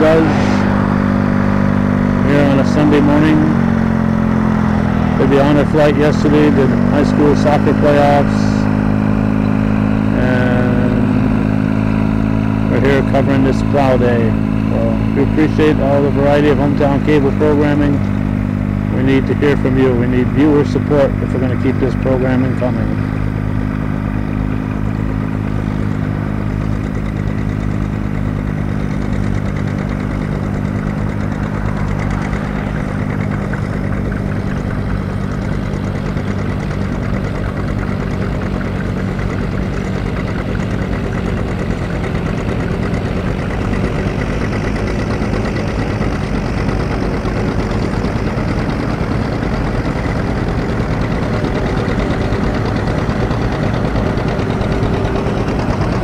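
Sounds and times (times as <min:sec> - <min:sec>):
tractor engines running: 0:00.0 - 0:56.0.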